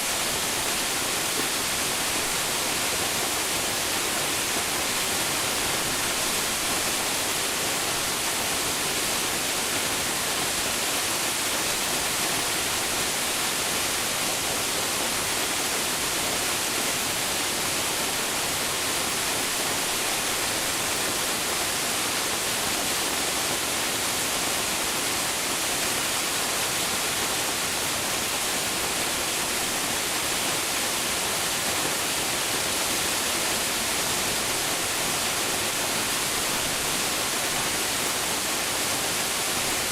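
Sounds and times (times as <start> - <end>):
waterfall crashing: 0.0 - 39.9.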